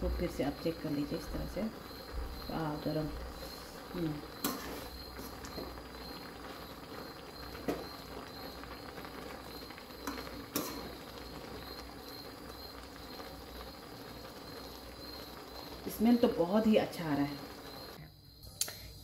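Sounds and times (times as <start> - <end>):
greens simmering with low hiss: 0.0 - 19.0.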